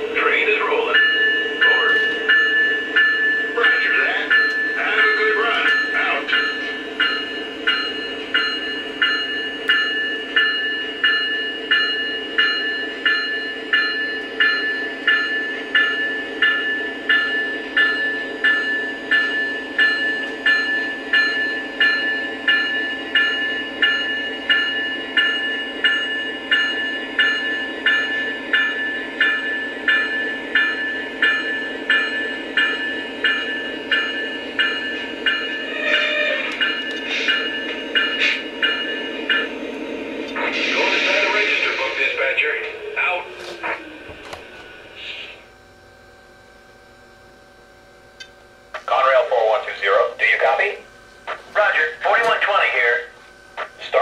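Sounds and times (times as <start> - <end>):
locomotive bell ringing: 0.0 - 54.0.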